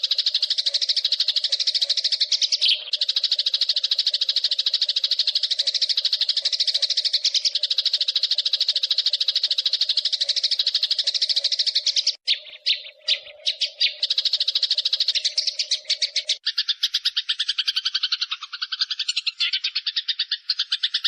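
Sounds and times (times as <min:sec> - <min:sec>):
sparrow chattering: 0:00.0 - 0:21.0.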